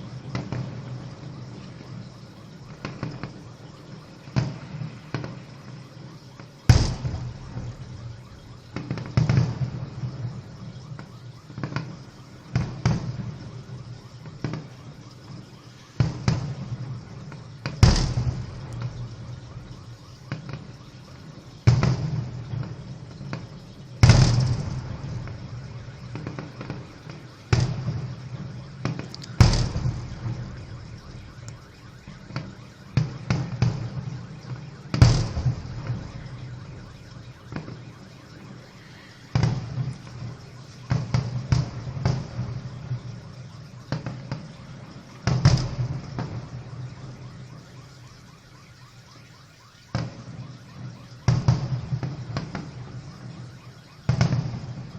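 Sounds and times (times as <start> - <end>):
fireworks booming: 0.0 - 49.0, 49.9 - 54.9.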